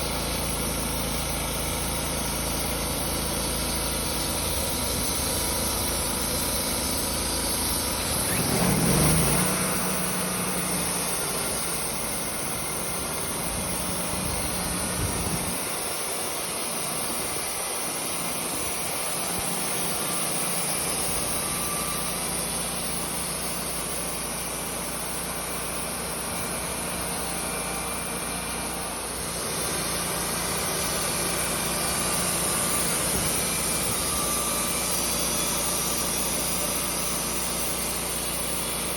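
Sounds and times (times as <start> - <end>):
hiss: 0.0 - 38.9
sawmill engine running: 0.0 - 38.9.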